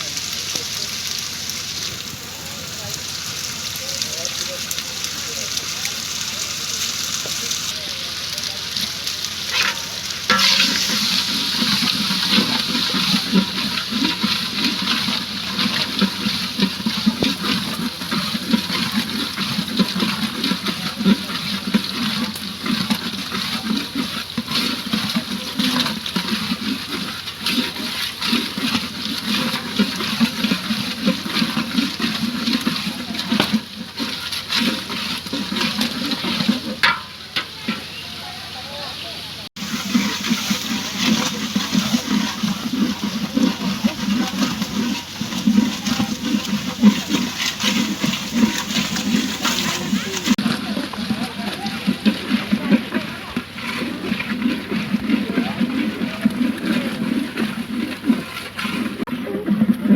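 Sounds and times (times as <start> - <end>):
food sizzling in hot oil: 0.0 - 38.6, 39.4 - 50.4.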